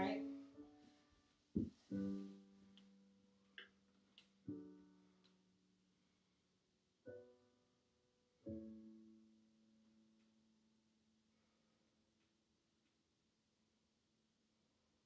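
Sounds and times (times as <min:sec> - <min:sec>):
soft slow piano: 0:00.0 - 0:12.3.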